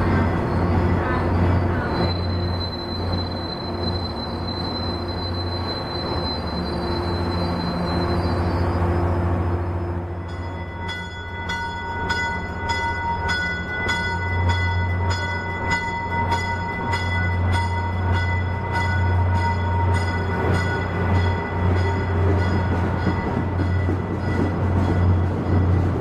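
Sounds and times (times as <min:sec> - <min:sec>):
train rumbling: 0:00.0 - 0:26.0
train warning bell ringing: 0:00.0 - 0:26.0.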